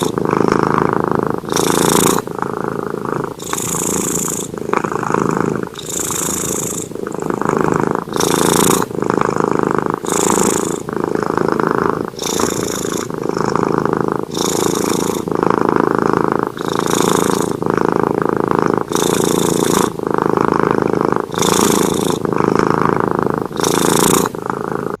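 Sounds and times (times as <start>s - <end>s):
breathy high hiss: 0.0s - 25.0s
cat purring: 0.0s - 25.0s.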